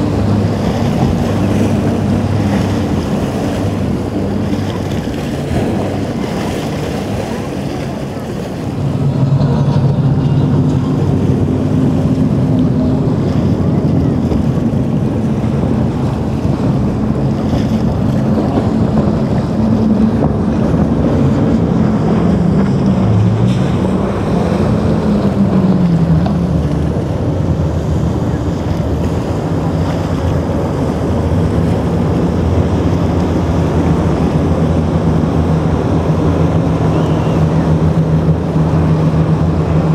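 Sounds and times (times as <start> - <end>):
motorboat engines running: 0.0 - 39.9
surf: 0.0 - 39.9
wind buffeting microphone: 0.0 - 39.9.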